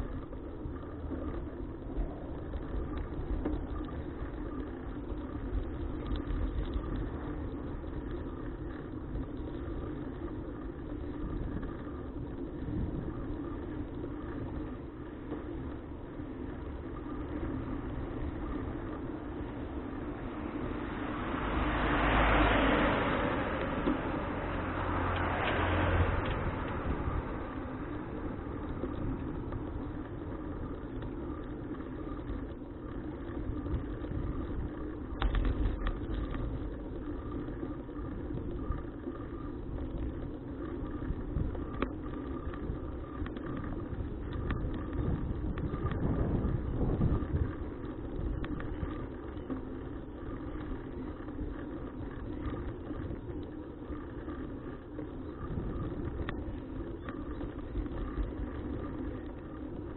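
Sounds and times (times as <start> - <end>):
bicycle tyre noise: 0.0 - 59.9
wind noise: 0.0 - 59.9.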